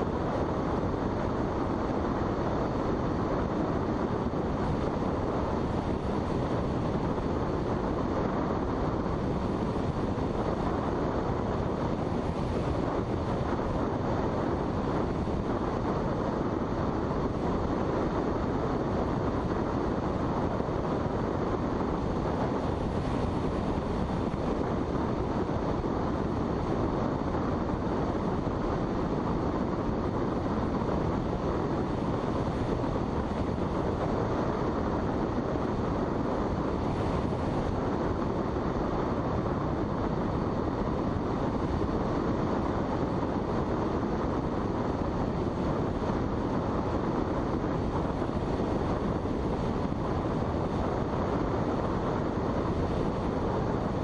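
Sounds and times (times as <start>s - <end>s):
rushing airflow: 0.0s - 54.0s.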